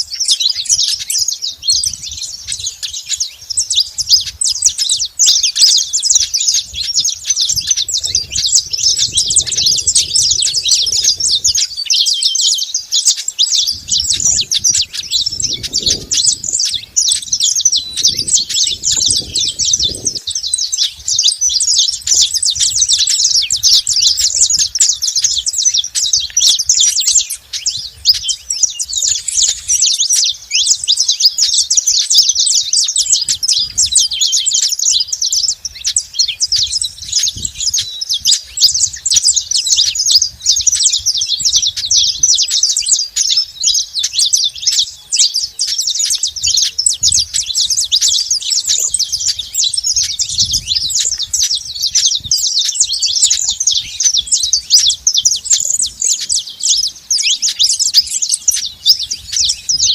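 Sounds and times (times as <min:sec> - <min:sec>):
finches chirping and singing: 0:00.0 - 0:59.9.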